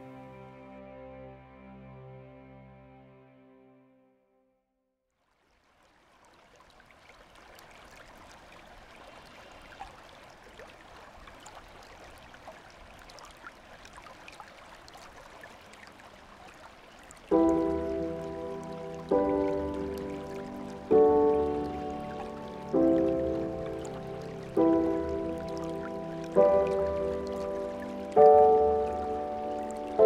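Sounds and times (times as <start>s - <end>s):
stream water flowing: 5.2s - 30.0s
water drips and splashes: 5.2s - 30.0s.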